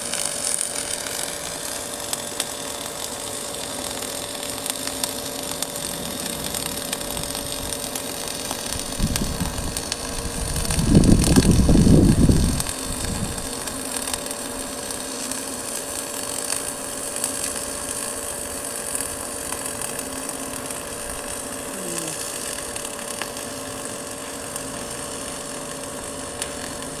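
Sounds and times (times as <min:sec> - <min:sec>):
steady hum: 0:00.0 - 0:27.0
welding arc crackling hiss: 0:00.0 - 0:27.0.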